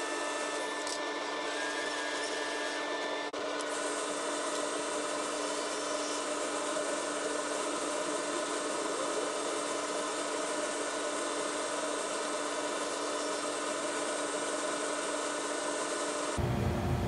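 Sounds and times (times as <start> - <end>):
table saw motor hum: 0.0 - 17.0.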